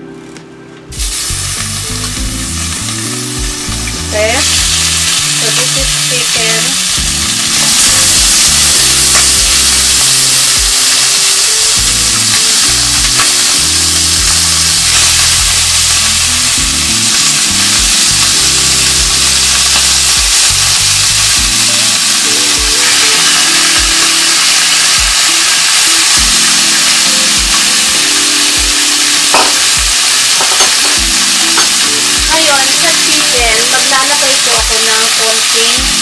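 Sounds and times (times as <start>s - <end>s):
chicken sizzling in hot oil: 0.9s - 36.0s
tongs turning meat in pan: 1.0s - 36.0s.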